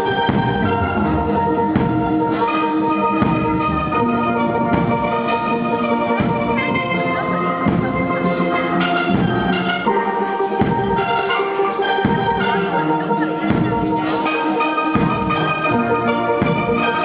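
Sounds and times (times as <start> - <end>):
steady drum beat: 0.0 - 17.0
steel pans playing melody: 0.0 - 17.0.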